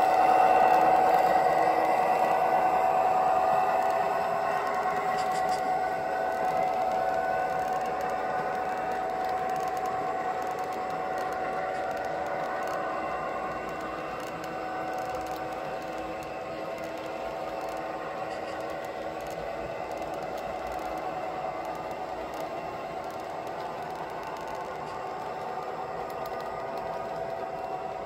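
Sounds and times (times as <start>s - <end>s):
model train wheels rattling: 0.0s - 28.0s
steady whine: 0.0s - 28.0s.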